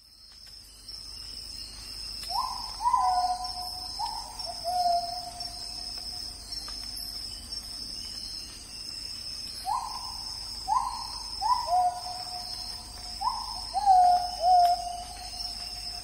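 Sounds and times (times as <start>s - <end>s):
high-pitched insect drone: 0.8s - 16.0s.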